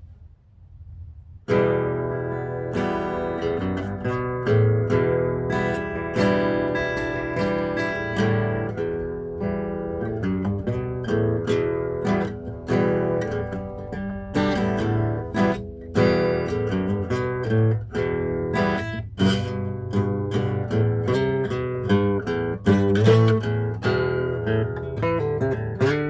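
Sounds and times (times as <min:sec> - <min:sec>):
acoustic guitar strumming: 0:01.5 - 0:26.0.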